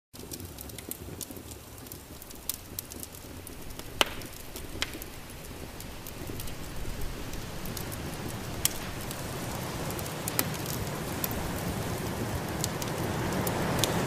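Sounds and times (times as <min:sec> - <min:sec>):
wood fire crackling: 0:00.1 - 0:14.0
fire popping: 0:00.2 - 0:14.0
low steady rumble: 0:02.0 - 0:14.0.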